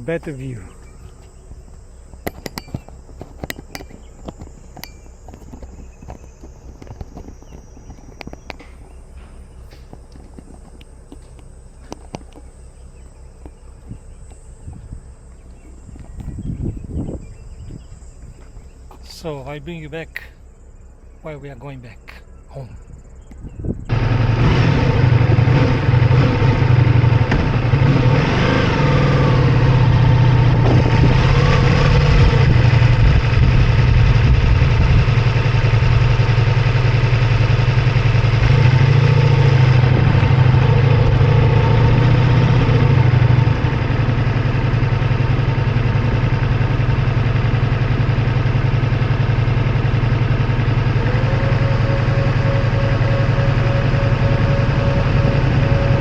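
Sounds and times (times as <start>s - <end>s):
motorcycle engine running: 0.0s - 19.8s, 22.2s - 56.0s.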